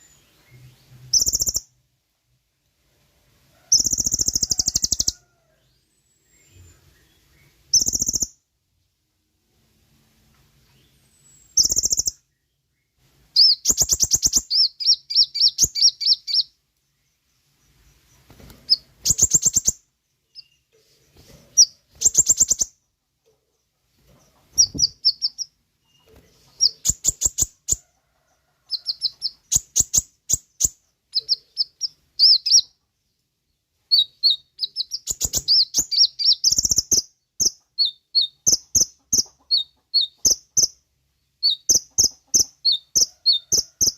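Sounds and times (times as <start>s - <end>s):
sunbird chirping and trilling: 0.0s - 1.8s, 3.7s - 8.4s, 10.7s - 22.8s, 23.6s - 27.8s, 28.7s - 32.8s, 33.5s - 43.9s.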